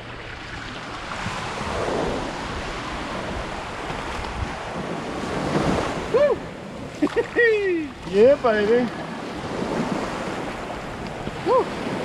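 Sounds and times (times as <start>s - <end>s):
surf washing up on beach: 0.0s - 12.0s
wind on microphone: 0.0s - 12.0s.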